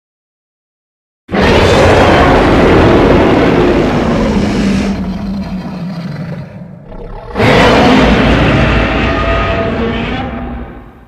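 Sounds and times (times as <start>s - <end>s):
gritty monster roar: 1.3s - 10.9s.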